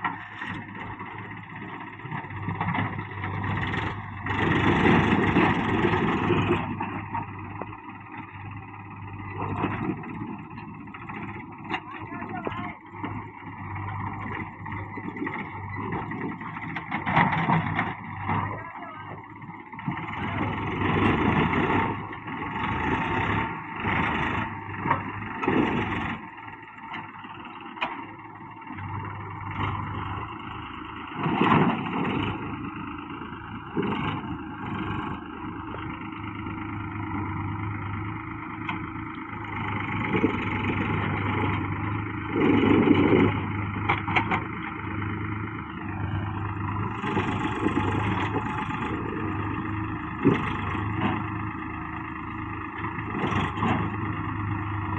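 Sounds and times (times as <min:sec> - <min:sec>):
tractor engine under load: 0:00.0 - 0:54.9.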